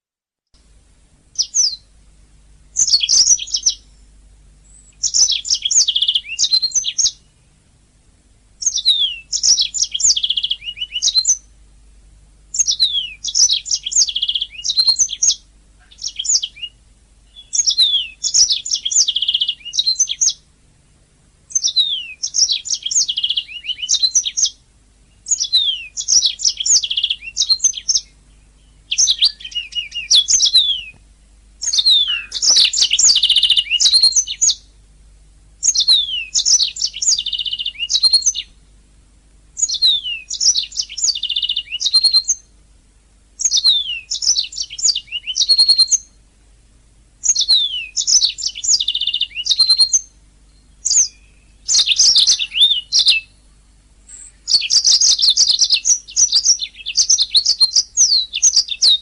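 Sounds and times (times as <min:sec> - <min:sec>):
canary singing trills: 0:01.3 - 0:01.9, 0:02.7 - 0:07.6, 0:08.6 - 0:11.6, 0:12.5 - 0:20.5, 0:21.5 - 0:31.0, 0:31.6 - 0:34.8, 0:35.6 - 0:38.7, 0:39.6 - 0:42.5, 0:43.4 - 0:46.2, 0:47.2 - 0:59.0.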